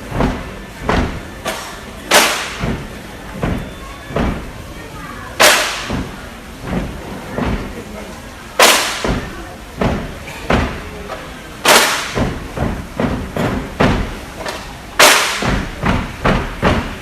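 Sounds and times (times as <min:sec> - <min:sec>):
percussive dance knocks and thuds: 0:00.0 - 0:01.5, 0:02.1 - 0:04.6, 0:05.4 - 0:07.8, 0:08.6 - 0:10.9, 0:11.6 - 0:17.0.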